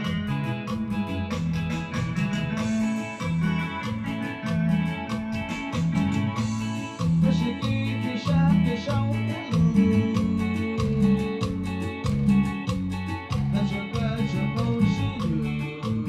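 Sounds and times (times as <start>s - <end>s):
dance music: 0.0s - 16.0s.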